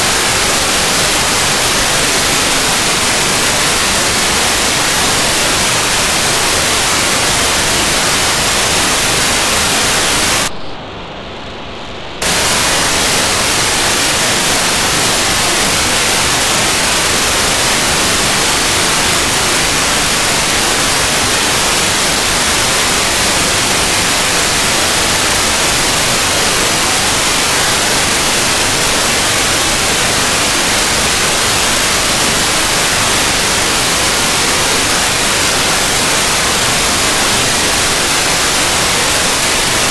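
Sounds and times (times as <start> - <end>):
radio receiver hiss: 0.0 - 10.8, 12.2 - 39.9
radio signal: 0.0 - 39.9.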